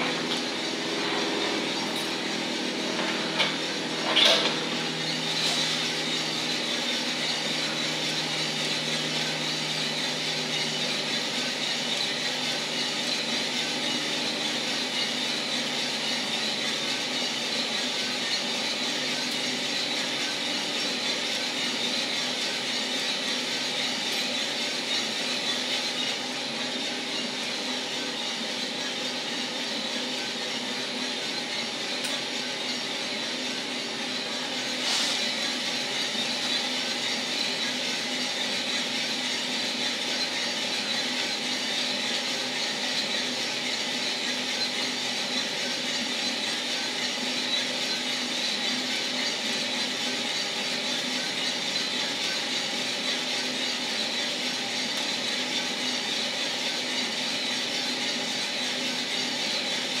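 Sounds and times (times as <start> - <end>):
coffee roaster fan and motor hum: 0.0 - 60.0.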